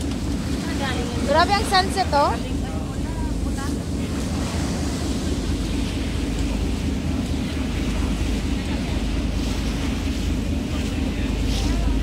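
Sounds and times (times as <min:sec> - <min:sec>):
low rumble: 0:00.0 - 0:12.0
water churning along hull: 0:00.0 - 0:12.0
wind buffeting microphone: 0:00.0 - 0:12.0.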